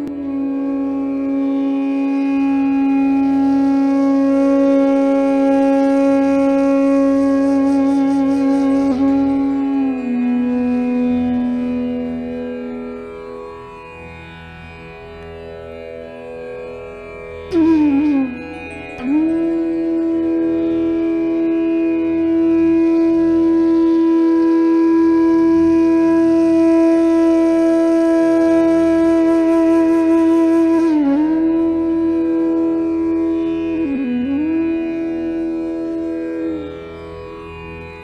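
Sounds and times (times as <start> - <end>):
wind instrument holding long note: 0.0 - 13.2, 17.5 - 37.4.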